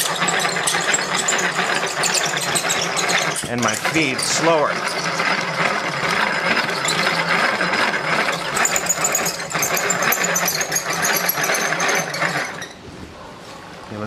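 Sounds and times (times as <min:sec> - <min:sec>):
cutter whirring and rasping wood: 0:00.0 - 0:12.8.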